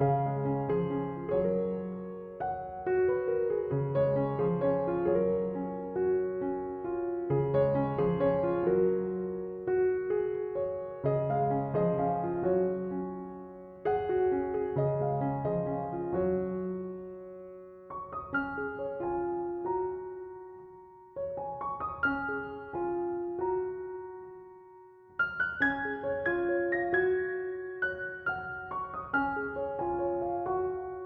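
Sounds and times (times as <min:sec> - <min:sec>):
soft piano music: 0:00.0 - 0:31.0.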